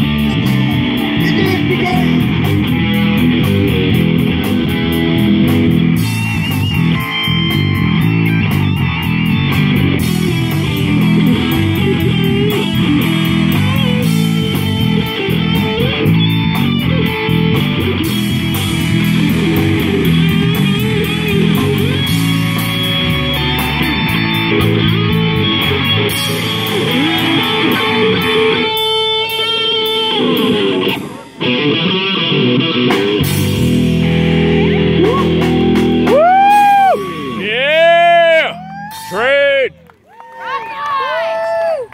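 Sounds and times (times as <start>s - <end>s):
drums: 0.0s - 39.7s
bass guitar: 0.0s - 40.1s
electric guitars: 0.0s - 40.4s.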